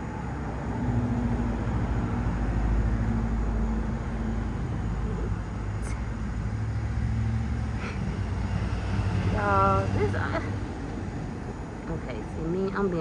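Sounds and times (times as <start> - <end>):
motor humming and rumbling: 1.8 - 13.0.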